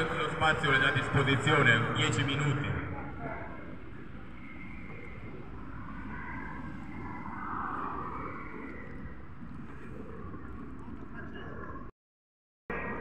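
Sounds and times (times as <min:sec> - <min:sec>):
low outdoor rumble: 0:00.0 - 0:11.9.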